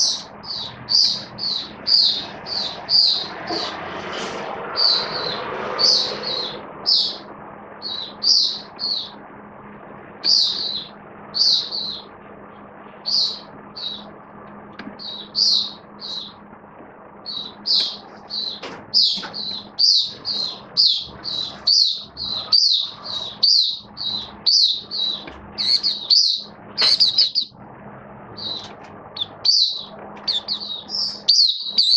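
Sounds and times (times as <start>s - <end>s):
songbird chirping: 0.0s - 3.9s, 4.7s - 9.2s, 10.2s - 12.2s, 13.0s - 14.2s, 15.0s - 16.4s, 17.2s - 27.6s, 28.4s - 31.9s
faint steady hum: 0.0s - 31.9s.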